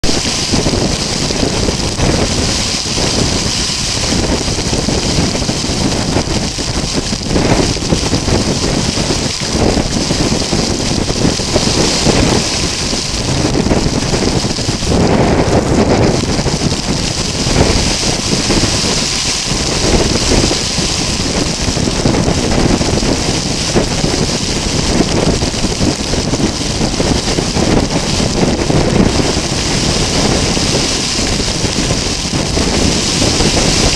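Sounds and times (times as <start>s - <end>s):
wind and rain rushing: 0.0s - 33.9s
wind buffeting microphone: 0.0s - 33.9s.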